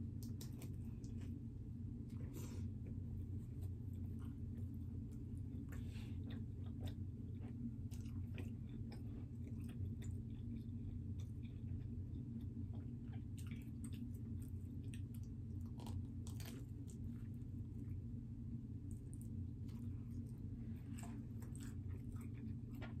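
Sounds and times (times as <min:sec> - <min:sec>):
low hum: 0:00.0 - 0:23.0
person chewing: 0:03.5 - 0:18.0, 0:18.9 - 0:23.0.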